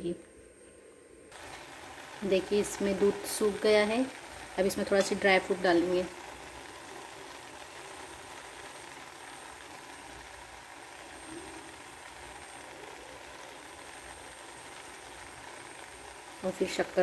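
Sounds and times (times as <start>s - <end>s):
food hissing in a pot: 1.3s - 17.0s.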